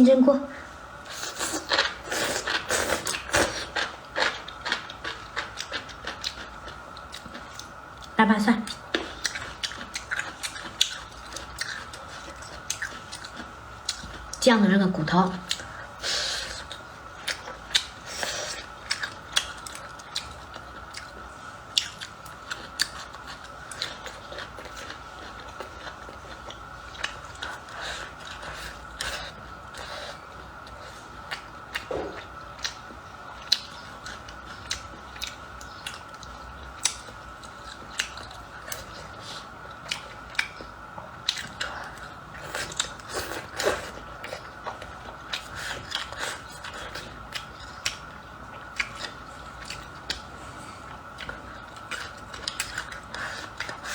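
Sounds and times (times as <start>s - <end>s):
chewing and biting: 1.1s - 14.4s, 15.4s - 53.9s.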